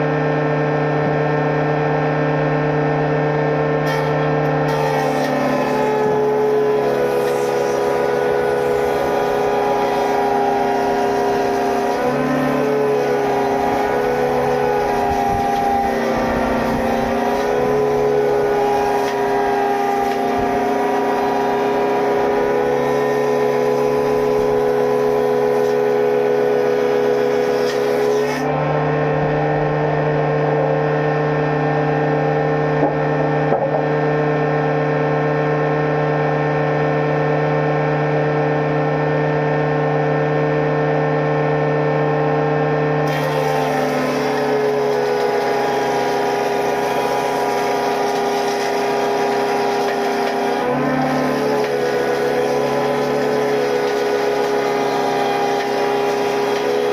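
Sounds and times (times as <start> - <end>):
woodworking machinery motor hum: 0.0 - 56.9.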